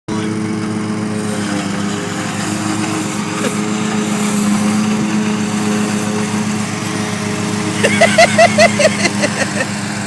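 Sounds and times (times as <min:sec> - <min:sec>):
lawn mower engine running: 0:00.1 - 0:10.0.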